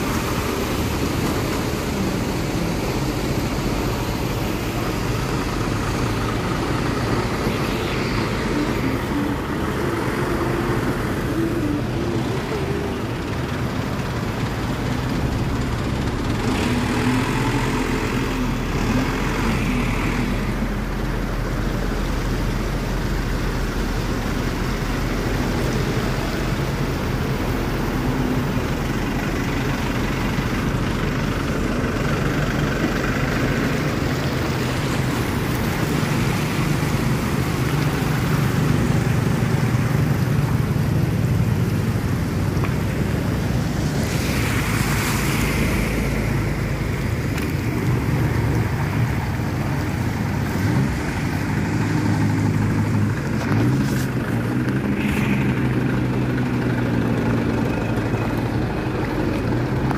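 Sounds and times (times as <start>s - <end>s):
vehicle engine hum: 0.0s - 59.9s.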